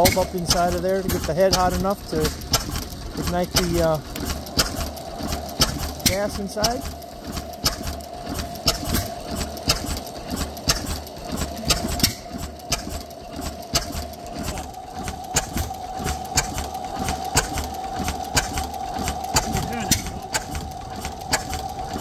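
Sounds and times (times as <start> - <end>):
sharp engine click: 0.0 - 22.0
steady tone: 2.9 - 22.0.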